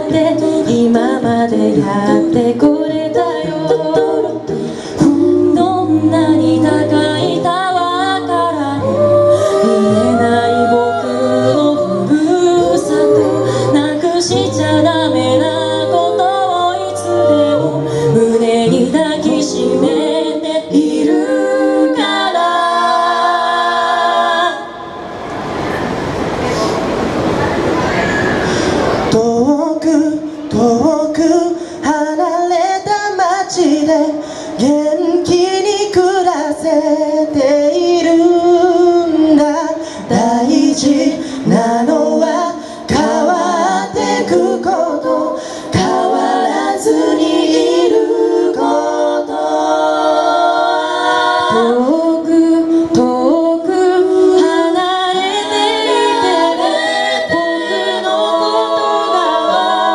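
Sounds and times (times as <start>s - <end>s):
a cappella group harmony: 0.0s - 27.1s, 28.3s - 59.9s.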